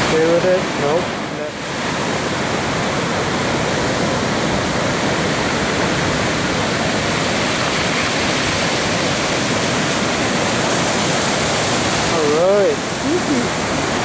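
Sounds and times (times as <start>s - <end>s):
ocean surf roaring: 0.0s - 14.0s.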